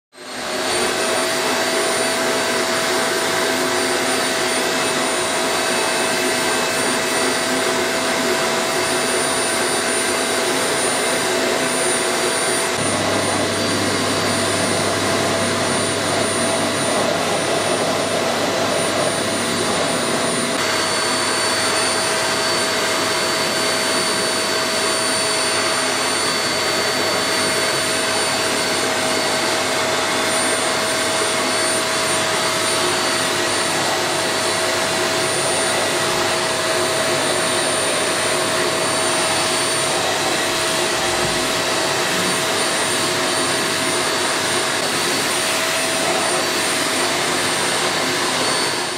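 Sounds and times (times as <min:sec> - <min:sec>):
vacuum cleaner whining: 0:00.1 - 0:48.9.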